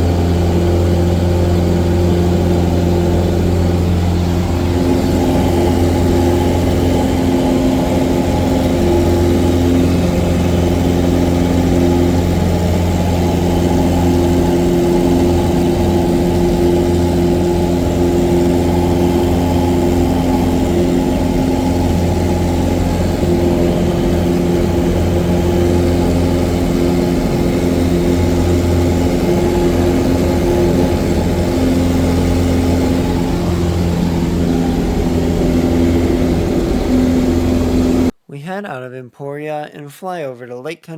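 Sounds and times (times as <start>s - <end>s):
airplane engine and propeller drone: 0.0s - 38.2s.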